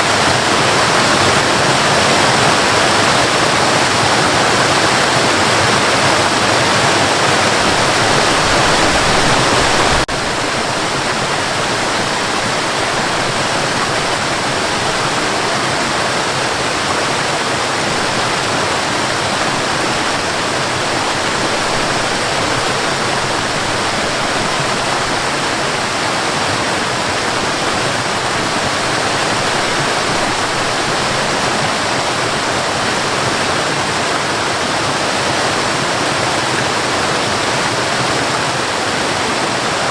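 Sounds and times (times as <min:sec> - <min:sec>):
water cascading and splashing: 0:00.0 - 0:39.9.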